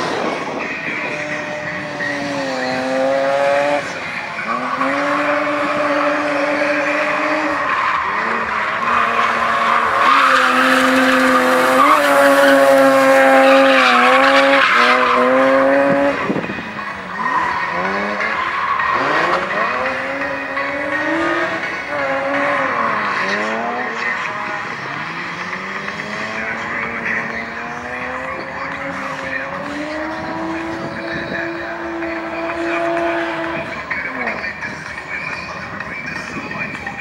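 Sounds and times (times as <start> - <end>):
car engine at high revs: 0.0 - 36.8
tyres squealing: 1.7 - 34.6.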